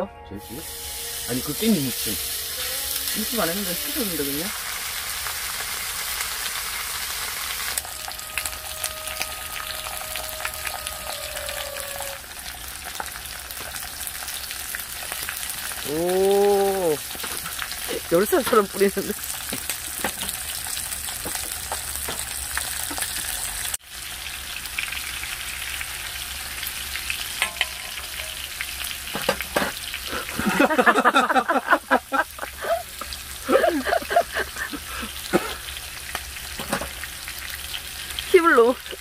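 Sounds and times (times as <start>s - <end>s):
fat sizzling in a pan: 0.4s - 39.0s.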